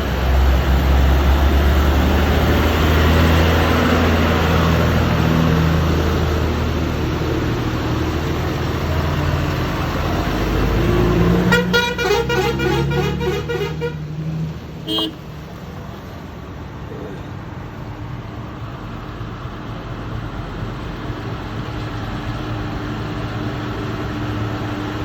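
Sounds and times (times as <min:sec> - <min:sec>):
road and wind noise: 0:00.0 - 0:25.0
vehicle engines rumbling: 0:00.0 - 0:25.0.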